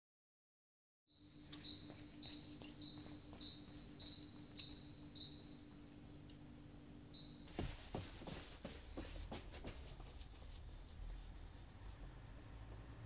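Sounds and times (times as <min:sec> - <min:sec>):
steady low hum: 0:01.1 - 0:13.0.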